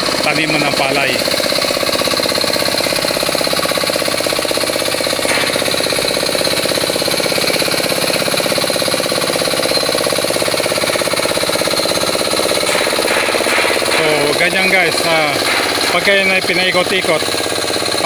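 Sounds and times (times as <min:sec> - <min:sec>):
hand tractor engine pulsing: 0:00.0 - 0:18.0.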